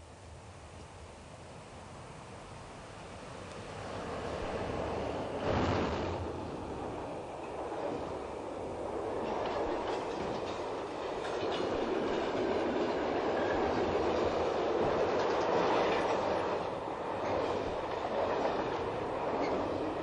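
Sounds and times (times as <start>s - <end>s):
train wheels rumbling on rails: 3.0s - 20.0s.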